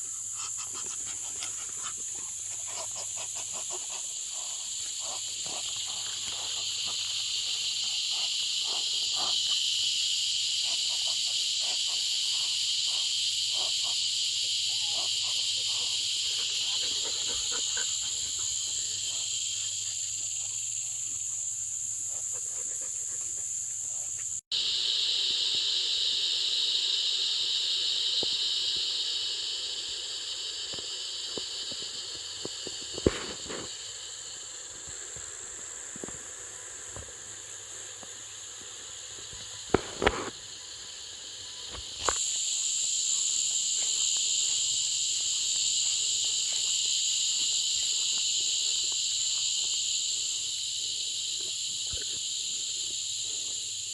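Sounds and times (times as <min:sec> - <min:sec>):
high-pitched insect chorus: 0:00.0 - 0:53.9.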